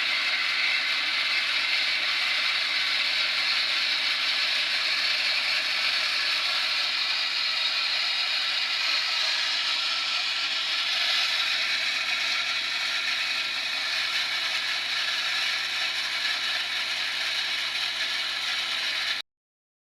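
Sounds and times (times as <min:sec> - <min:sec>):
water spraying from pipe: 0:00.0 - 0:19.2.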